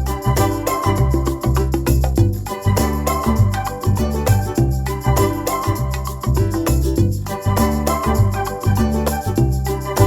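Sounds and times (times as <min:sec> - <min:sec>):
jingling sound: 0:00.0 - 0:10.0
music with bass and organ: 0:00.0 - 0:10.0.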